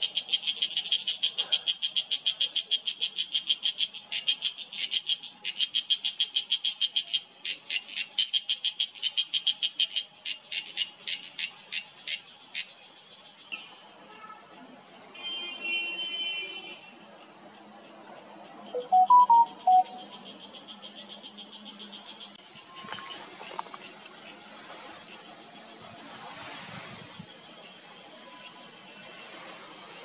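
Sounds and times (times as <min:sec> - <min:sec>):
cicada chirping: 0:00.0 - 0:30.0.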